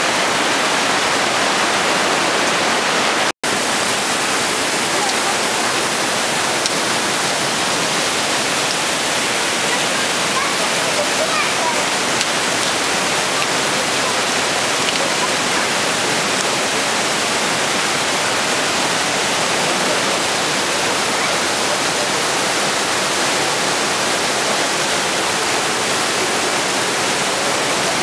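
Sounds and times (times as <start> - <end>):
stream rushing through gorge: 0.0 - 28.0.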